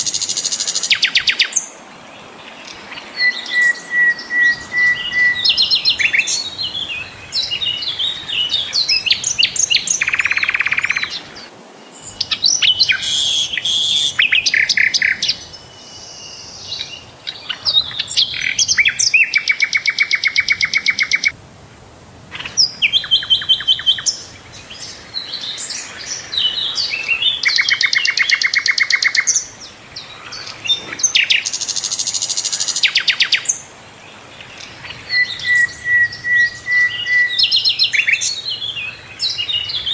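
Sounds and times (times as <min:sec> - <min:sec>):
flycatcher singing: 0:00.0 - 0:21.4, 0:22.4 - 0:33.7, 0:34.3 - 0:39.9.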